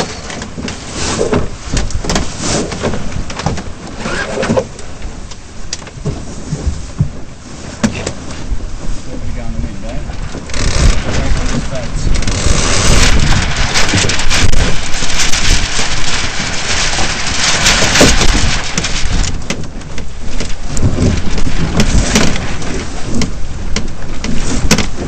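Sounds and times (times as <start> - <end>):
water splashing along hull: 0.0 - 25.0
wind rushing on microphone: 0.0 - 25.0.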